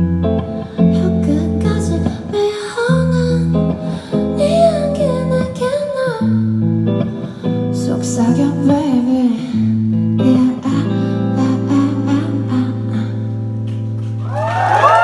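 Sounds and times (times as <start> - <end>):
strummed guitar chords: 0.0 - 14.2.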